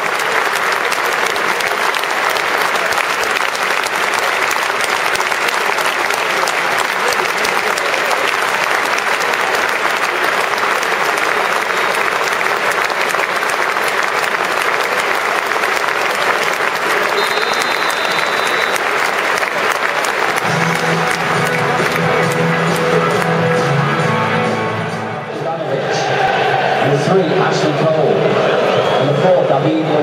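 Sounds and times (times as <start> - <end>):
stadium crowd applauding: 0.0 - 30.0.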